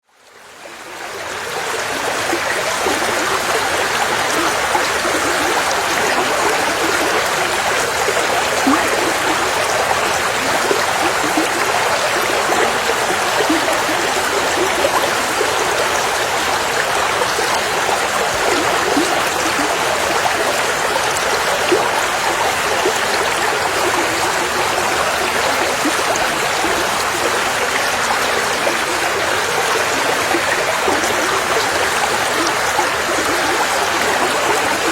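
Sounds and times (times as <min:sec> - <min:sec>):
river water flowing over stones: 0:00.1 - 0:34.9.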